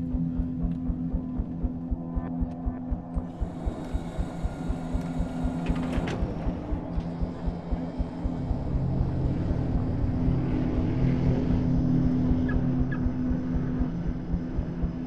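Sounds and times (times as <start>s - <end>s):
engine drone throbbing: 0.0s - 15.0s.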